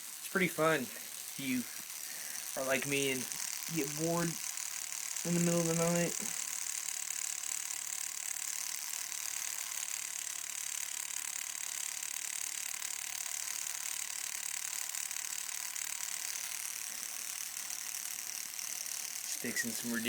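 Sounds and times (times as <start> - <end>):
tattoo machine buzzing: 0.0 - 20.0.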